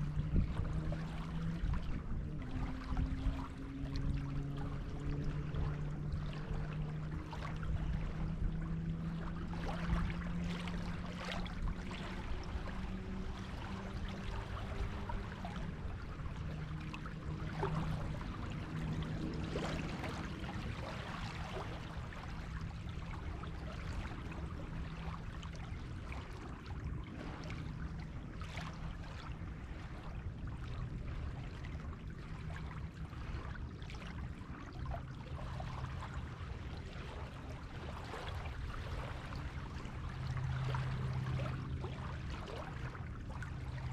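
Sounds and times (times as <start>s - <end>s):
low hum: 0.0s - 43.9s
small waves washing on shore: 0.0s - 43.9s.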